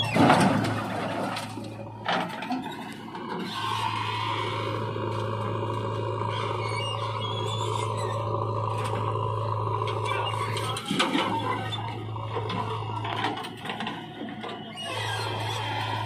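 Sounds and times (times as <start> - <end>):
diesel engines humming: 0.0 - 16.0.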